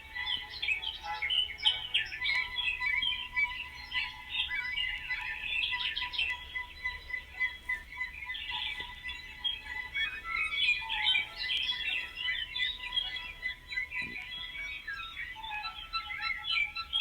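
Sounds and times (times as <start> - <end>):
birds chirping and twittering: 0.0 - 17.0.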